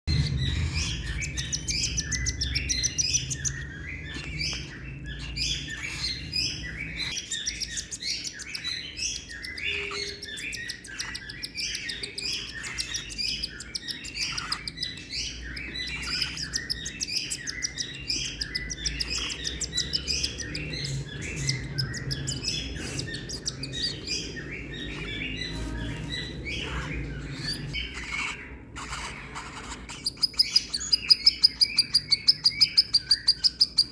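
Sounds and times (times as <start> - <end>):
baby bird chirping rapidly: 0.1 - 33.9.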